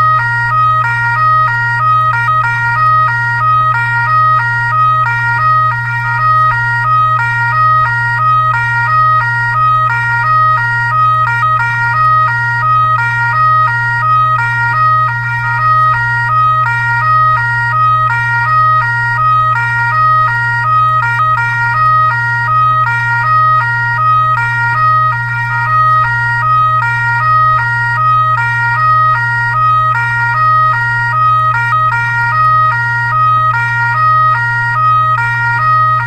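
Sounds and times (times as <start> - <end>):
constant low hum: 0.0 - 36.0
fire truck siren: 0.0 - 36.0.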